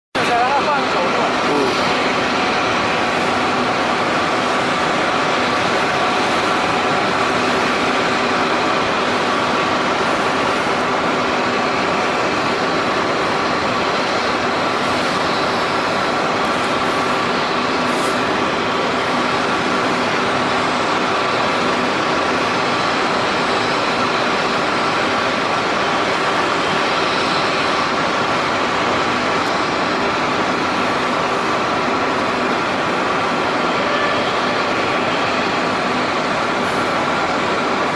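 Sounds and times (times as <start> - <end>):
fog cannon fan whirring: 0.2 - 37.9.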